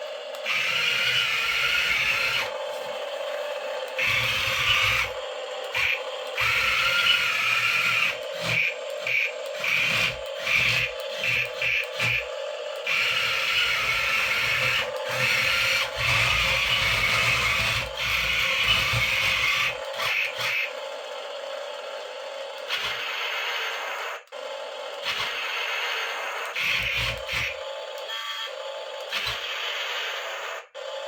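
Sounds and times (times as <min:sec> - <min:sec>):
toy tank motors whirring: 0:00.0 - 0:31.0.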